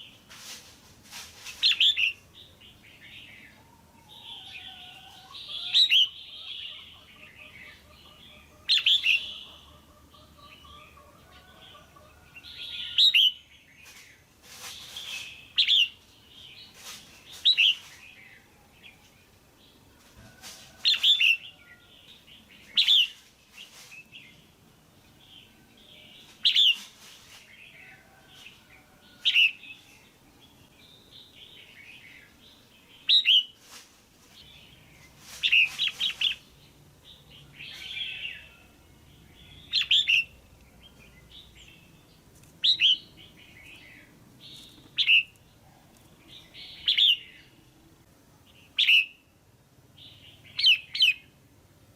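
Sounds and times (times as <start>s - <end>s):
bird chirping calls: 1.4s - 19.8s, 20.7s - 24.5s, 25.2s - 33.6s, 34.4s - 47.8s, 48.5s - 49.3s, 50.0s - 51.4s.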